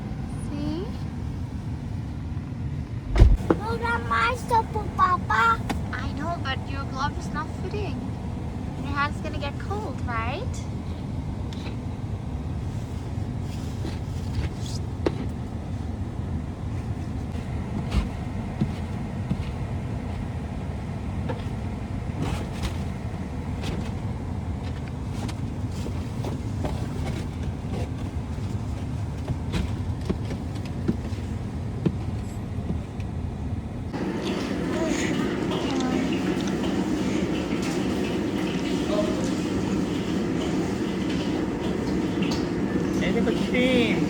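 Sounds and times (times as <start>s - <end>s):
car rumble: 0.0s - 37.5s.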